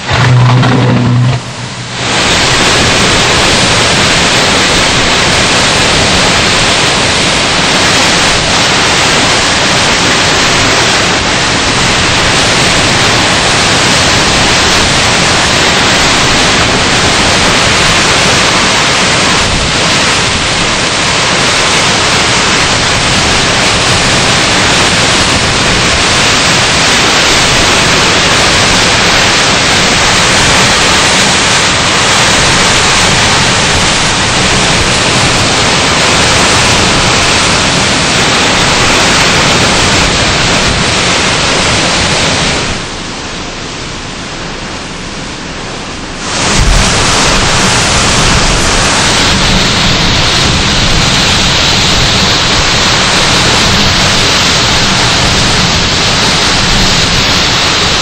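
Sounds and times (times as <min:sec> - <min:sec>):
hurricane wind: 0:00.0 - 0:58.0
wind-driven rain: 0:00.0 - 0:58.0.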